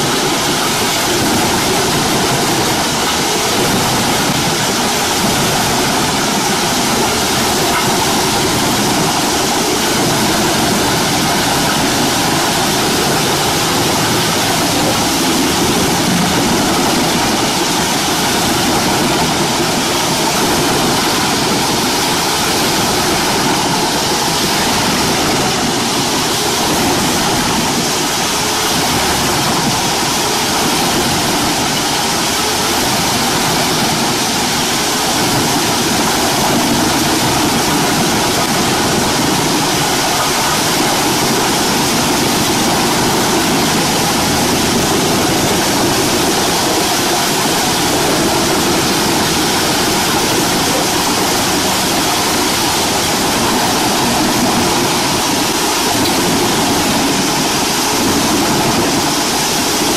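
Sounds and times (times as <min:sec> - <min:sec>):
wood chipper chipping logs: 0:00.0 - 0:59.9.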